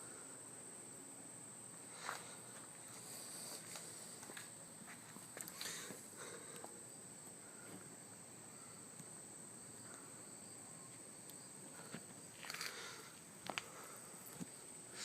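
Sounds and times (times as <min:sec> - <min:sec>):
even hiss: 0:00.0 - 0:15.0
faint high-pitched whine: 0:00.0 - 0:15.0.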